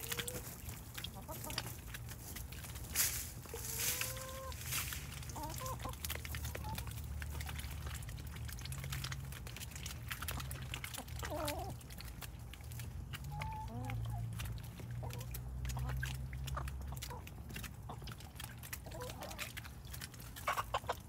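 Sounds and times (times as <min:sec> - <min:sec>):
bills dabbling and pecking in water: 0:00.0 - 0:21.0.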